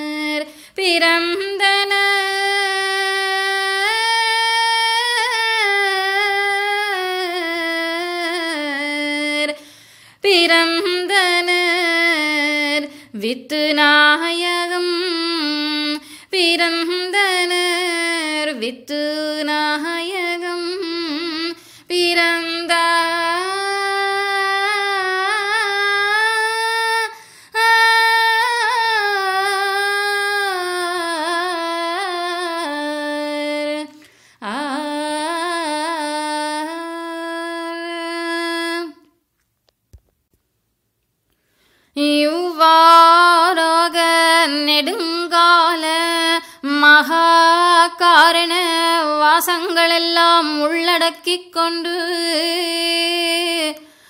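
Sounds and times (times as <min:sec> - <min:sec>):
high voice singing devotional verse: 0:00.0 - 0:39.2, 0:42.0 - 0:54.0.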